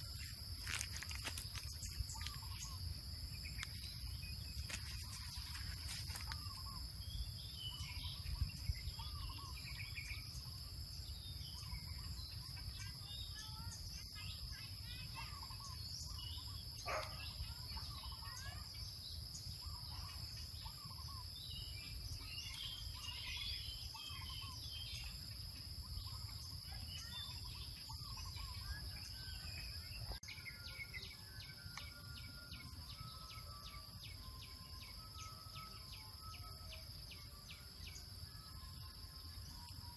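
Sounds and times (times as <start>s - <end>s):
bird chirps: 0.0s - 39.9s
insects droning: 0.0s - 39.9s.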